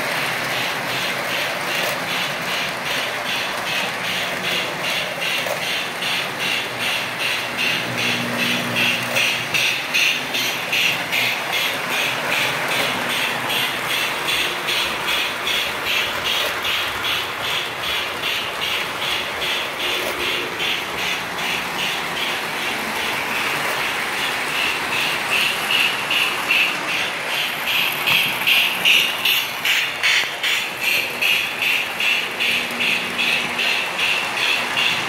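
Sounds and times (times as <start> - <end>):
model trains running on track: 0.0 - 35.0.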